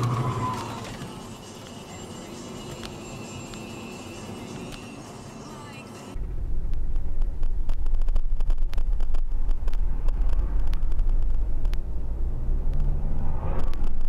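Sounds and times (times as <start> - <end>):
car rumble inside cabin: 0.0 - 14.0.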